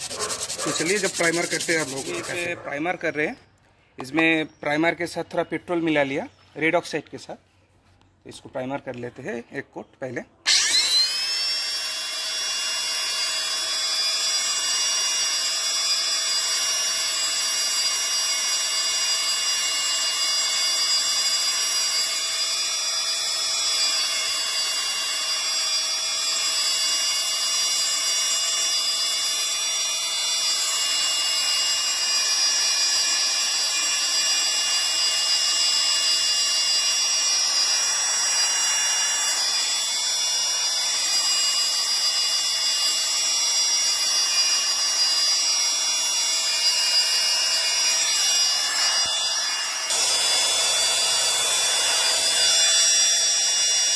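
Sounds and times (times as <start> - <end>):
electric paint spray gun whining: 0.0 - 2.5, 10.5 - 53.9.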